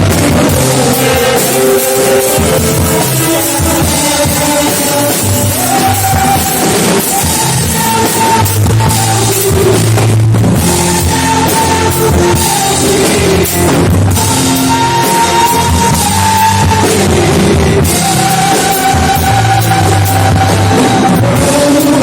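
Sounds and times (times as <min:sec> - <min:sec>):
loud band music with drums: 0:00.0 - 0:22.0.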